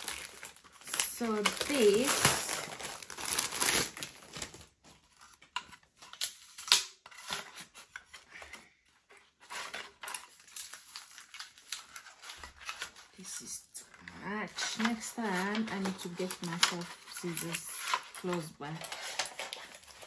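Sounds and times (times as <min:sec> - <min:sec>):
plastic hangers crinkling: 0:00.0 - 0:07.9, 0:09.4 - 0:20.0.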